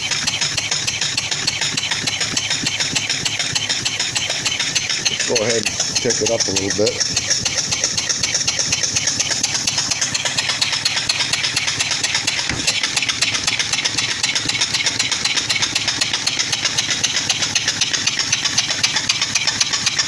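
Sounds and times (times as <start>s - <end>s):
steam engine exhaust chuffs: 0.0s - 20.0s.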